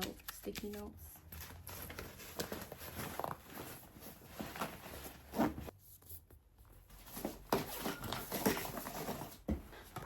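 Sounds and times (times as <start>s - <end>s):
rustling and handling noises: 0.0s - 10.0s.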